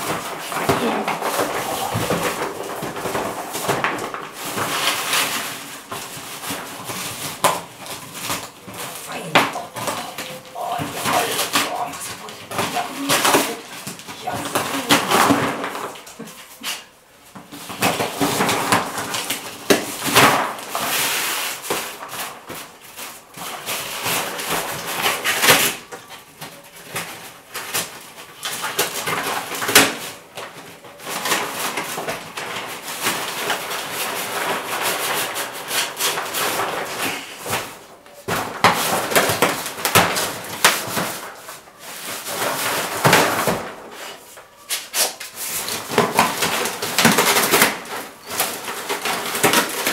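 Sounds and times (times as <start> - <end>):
wrapping paper rustling and ripping: 0.0 - 49.9.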